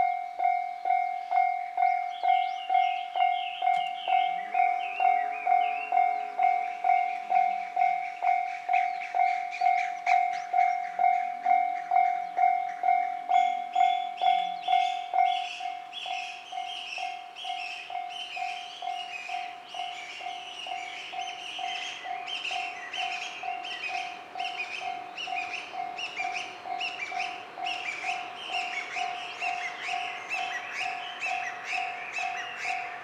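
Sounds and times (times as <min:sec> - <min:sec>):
level-crossing alarm ringing: 0:00.0 - 0:33.0.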